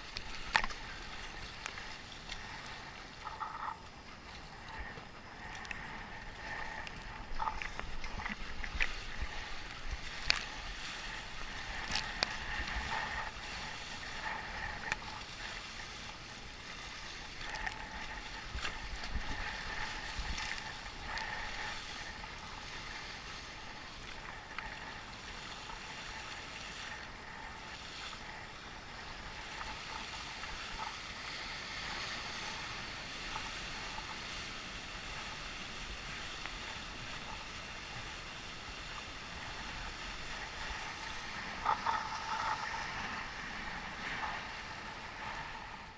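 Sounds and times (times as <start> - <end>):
water rushing and splashing: 0.0 - 45.9
wind on microphone: 0.0 - 45.9.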